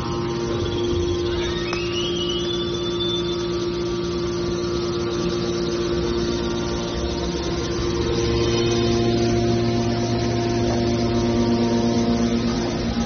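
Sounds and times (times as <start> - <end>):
baler motor and pump humming: 0.0 - 13.0
faint high whine rising: 0.0 - 13.0.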